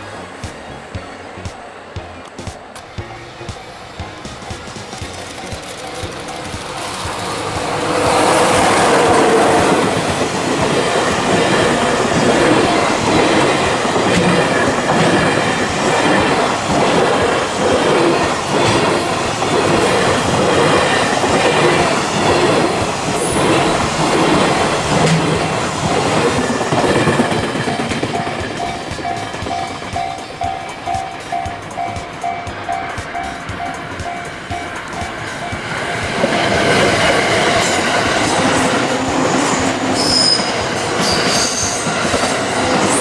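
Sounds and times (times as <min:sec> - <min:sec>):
freight train passing: 0:00.0 - 0:43.0
wheels clacking over rail joints: 0:00.0 - 0:43.0.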